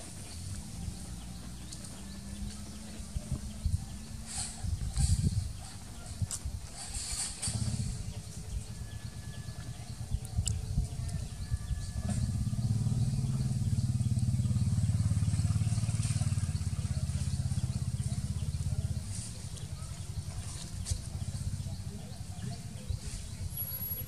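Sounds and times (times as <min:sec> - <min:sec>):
vehicle engine rumbling: 0:00.0 - 0:24.0.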